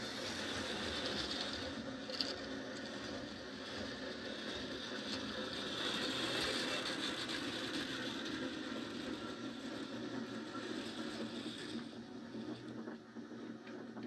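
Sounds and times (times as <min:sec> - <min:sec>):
model train motor whir: 0:00.0 - 0:12.9
model train wheels rumbling: 0:00.0 - 0:14.0.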